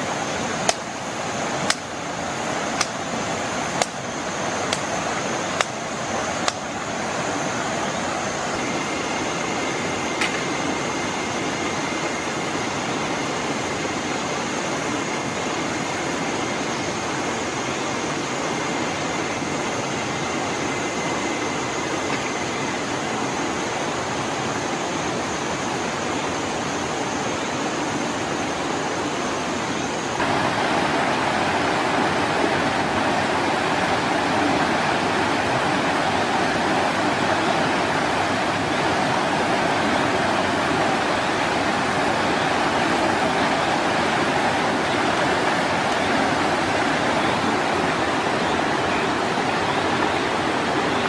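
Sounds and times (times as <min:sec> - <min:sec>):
faint high whine: 0:00.0 - 0:51.0
stream rushing over rocks: 0:00.0 - 0:51.0.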